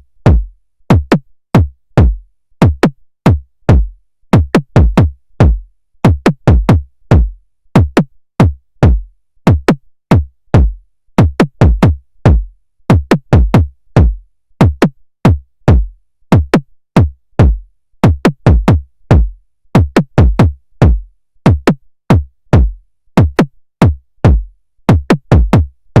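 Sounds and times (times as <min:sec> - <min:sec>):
drum machine kick drum: 0:00.0 - 0:26.0.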